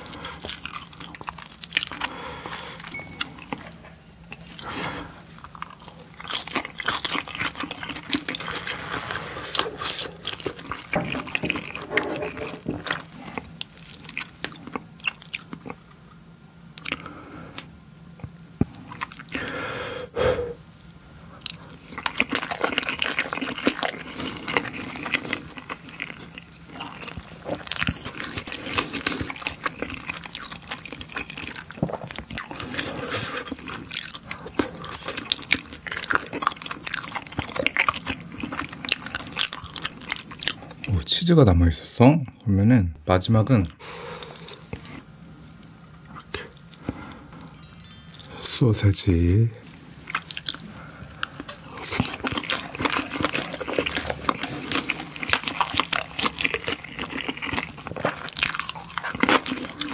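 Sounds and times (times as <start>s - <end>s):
wet sticky chewing: 0.0s - 15.9s, 16.7s - 19.5s, 21.4s - 41.2s, 43.6s - 47.0s, 49.6s - 59.9s.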